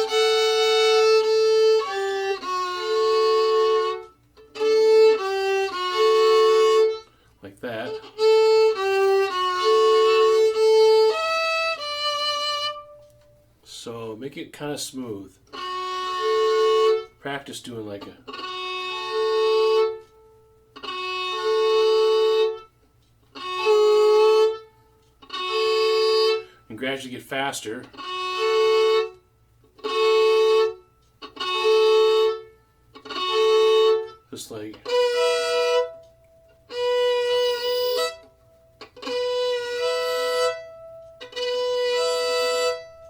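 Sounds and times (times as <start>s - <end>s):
fiddle bowing double stops: 0.0s - 13.8s, 14.8s - 43.0s.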